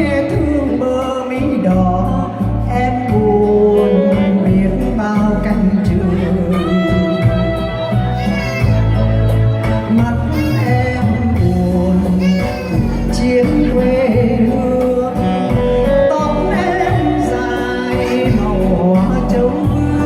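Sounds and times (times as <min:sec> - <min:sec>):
song with instrumental accompaniment: 0:00.0 - 0:20.0.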